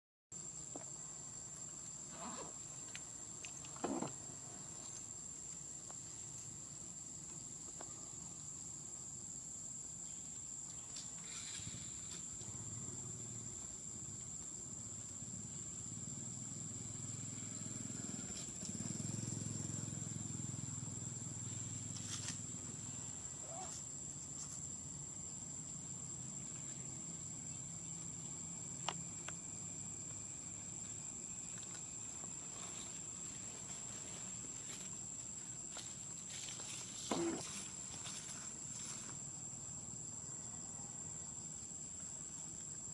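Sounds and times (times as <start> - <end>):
insects droning: 0.3 - 42.9.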